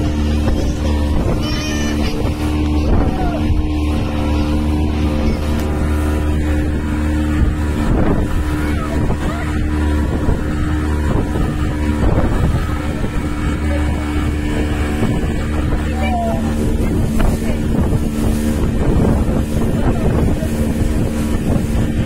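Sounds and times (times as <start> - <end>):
speedboat engine running: 0.0 - 22.0
water rushing along hull: 0.0 - 22.0
wind on microphone: 0.0 - 22.0.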